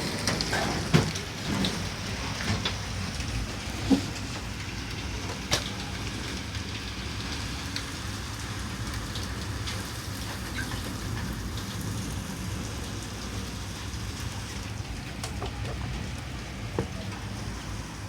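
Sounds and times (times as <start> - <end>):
hail and rain falling: 0.0 - 18.0.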